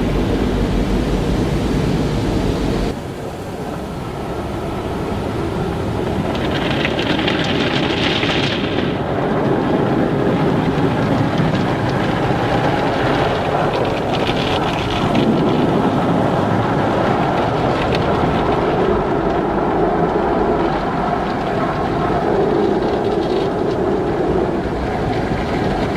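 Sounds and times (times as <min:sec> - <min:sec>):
car wash machinery and water: 0:00.0 - 0:25.9.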